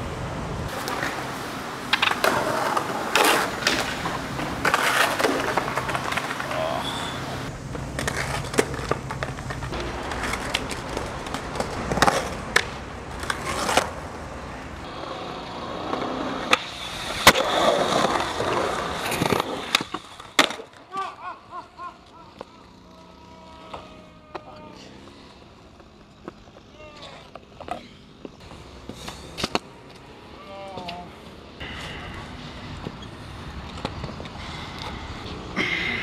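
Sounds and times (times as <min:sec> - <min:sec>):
skateboard wheels rolling on pavement: 0:00.0 - 0:36.0
skateboard clacking on ground: 0:00.7 - 0:21.1, 0:22.0 - 0:31.4, 0:32.1 - 0:35.4.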